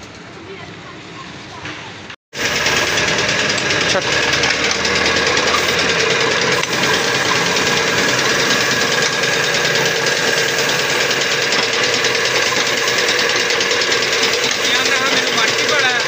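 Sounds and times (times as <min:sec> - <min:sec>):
air compressor pulsing: 0:02.3 - 0:16.0
spray gun hissing: 0:02.4 - 0:16.0.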